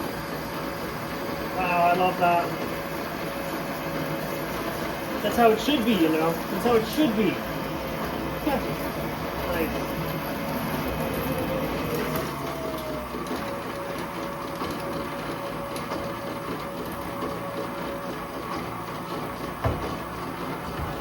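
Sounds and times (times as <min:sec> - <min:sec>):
metal lathe running with whine: 0:00.0 - 0:21.0.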